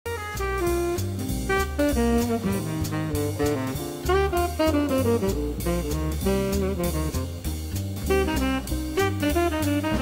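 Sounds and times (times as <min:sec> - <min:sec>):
jazz background music: 0:00.1 - 0:10.0.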